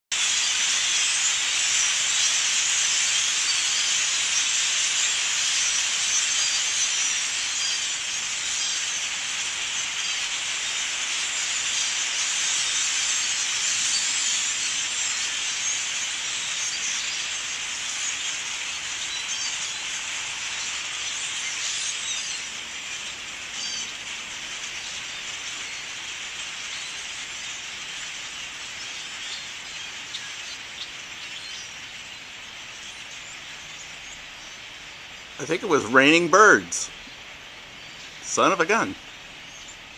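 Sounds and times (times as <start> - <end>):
flock of birds calling: 0.1 - 39.9.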